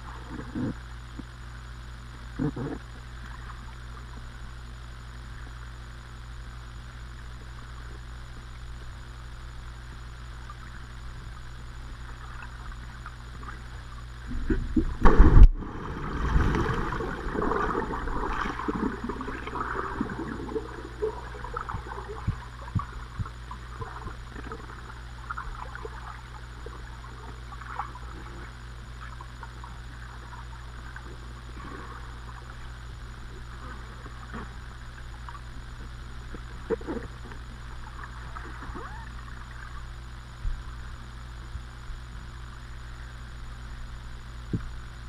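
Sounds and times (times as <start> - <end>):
water churning underwater: 0.0 - 43.6
steady low hum: 0.0 - 45.0.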